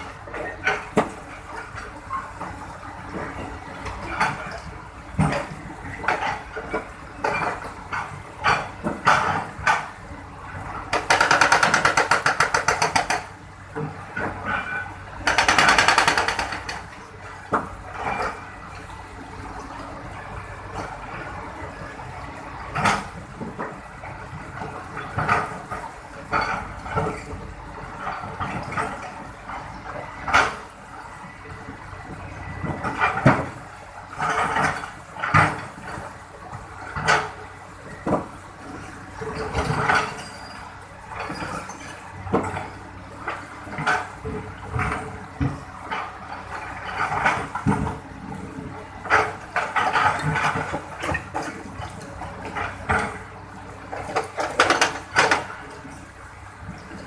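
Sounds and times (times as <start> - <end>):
excavator scrapes and clunks: 0.0 - 30.8, 32.2 - 57.0.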